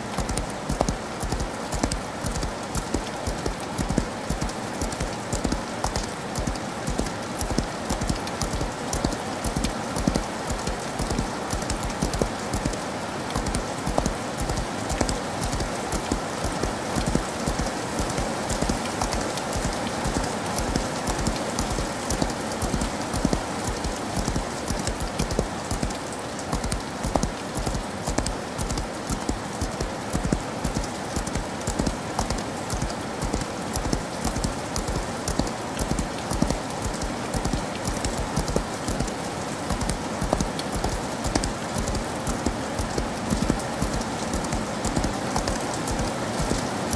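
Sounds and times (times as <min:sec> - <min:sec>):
rain hissing: 0:00.0 - 0:46.9
horse hooves galloping: 0:00.2 - 0:12.8, 0:13.4 - 0:46.5.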